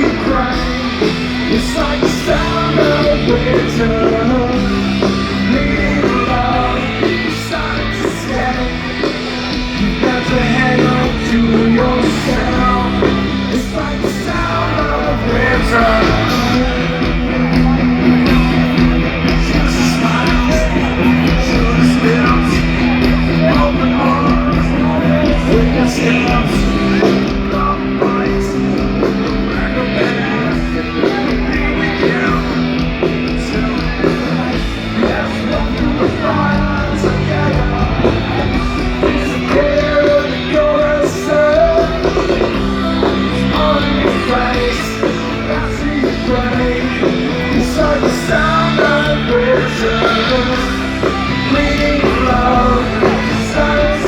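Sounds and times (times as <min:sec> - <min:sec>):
electric guitars: 0:00.0 - 0:54.0
person singing: 0:00.0 - 0:54.0
rock band playing live: 0:00.0 - 0:54.0.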